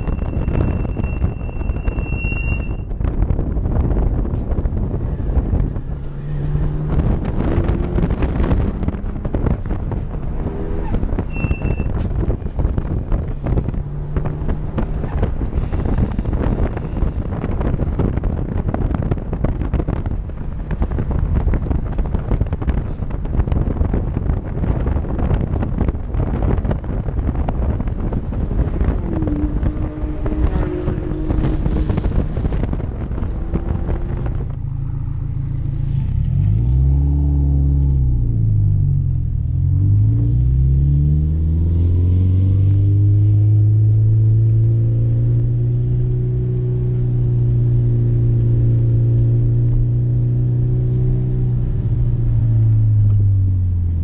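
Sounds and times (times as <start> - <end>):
wind and road noise: 0.0 - 54.0
car engine revving: 3.0 - 54.0.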